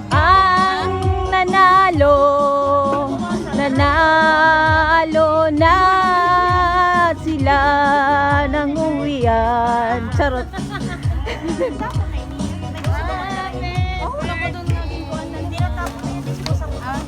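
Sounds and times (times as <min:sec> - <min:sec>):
person singing long notes: 0:00.0 - 0:17.0
steady music beat: 0:00.0 - 0:17.0.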